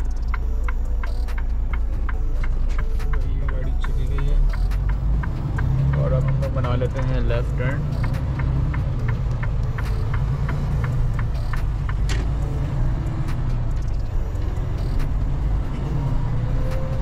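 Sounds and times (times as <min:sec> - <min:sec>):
truck engine rumble: 0:00.0 - 0:17.0
turn signal ticking: 0:00.0 - 0:17.0.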